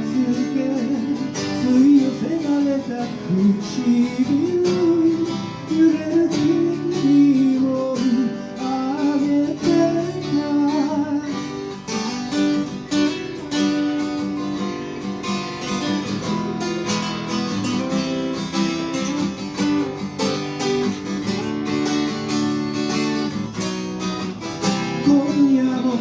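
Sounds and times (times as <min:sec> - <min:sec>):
acoustic guitar strummed and picked: 0:00.0 - 0:26.0.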